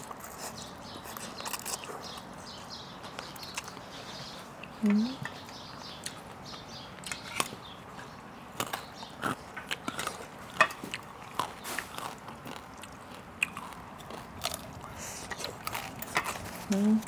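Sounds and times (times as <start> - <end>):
crunching crispy topping: 0.0 - 4.0, 7.0 - 17.0
wet mouth chewing sounds: 0.0 - 17.0.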